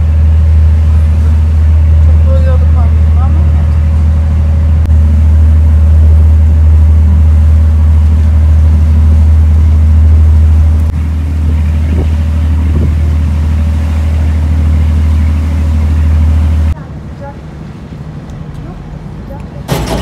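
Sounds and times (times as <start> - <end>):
ferry engine droning: 0.0 - 20.0.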